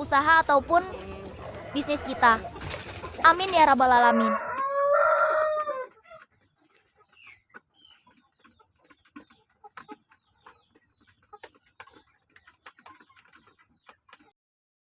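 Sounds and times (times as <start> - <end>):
chickens clucking: 0.0 - 14.4.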